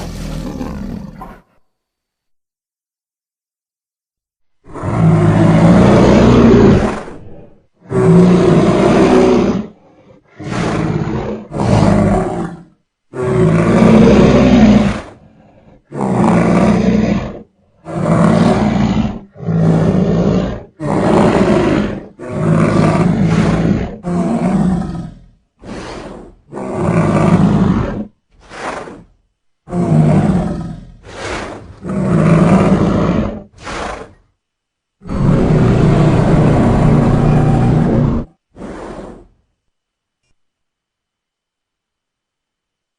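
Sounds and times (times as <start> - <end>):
deep monster roars: 0.0 - 1.6, 4.6 - 29.1, 29.7 - 34.2, 35.0 - 39.4.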